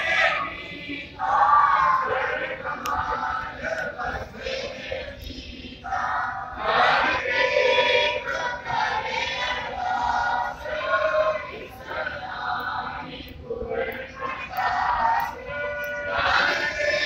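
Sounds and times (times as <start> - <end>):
congregation chanting: 0.0 - 17.0.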